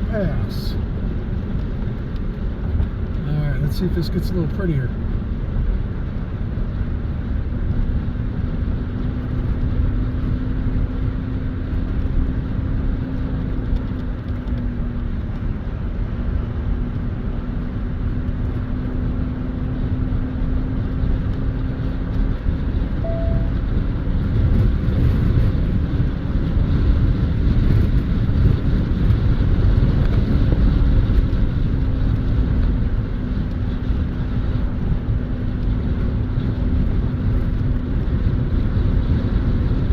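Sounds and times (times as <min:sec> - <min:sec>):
car interior engine and tyre rumble: 0:00.0 - 0:39.9.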